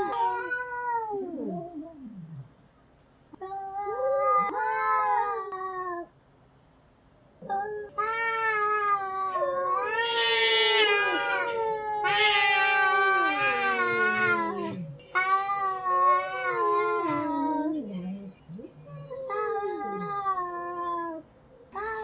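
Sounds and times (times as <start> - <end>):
cats yowling in a fight: 0.0 - 2.0, 3.4 - 6.1, 7.4 - 22.0.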